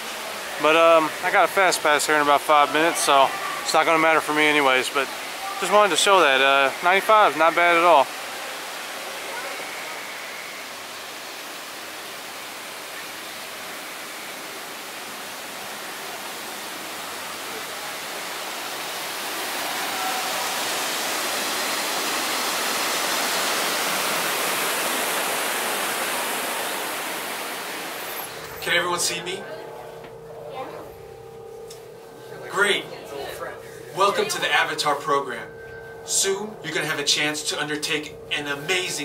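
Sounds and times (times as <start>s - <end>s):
water rushing: 0.0s - 39.0s.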